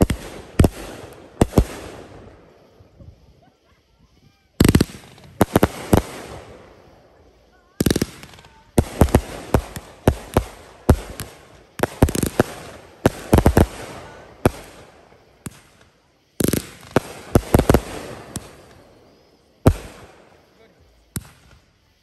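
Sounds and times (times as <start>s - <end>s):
aerial fireworks bursting: 0.0s - 22.0s.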